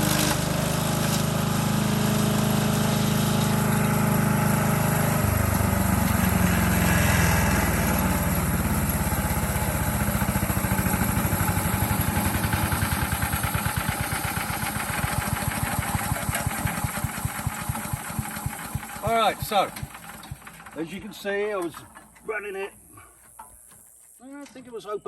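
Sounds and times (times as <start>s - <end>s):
small gas engine running: 0.0s - 22.2s.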